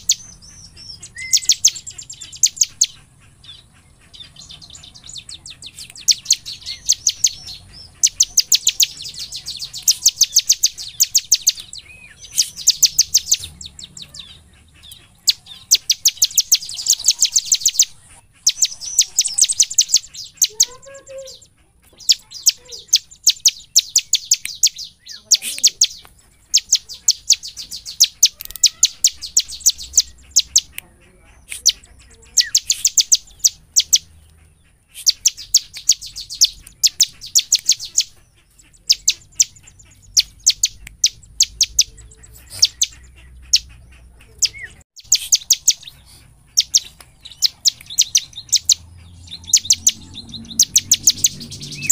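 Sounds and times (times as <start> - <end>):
bird singing high repeated notes: 0.0 - 30.8, 31.5 - 34.2, 34.9 - 51.9.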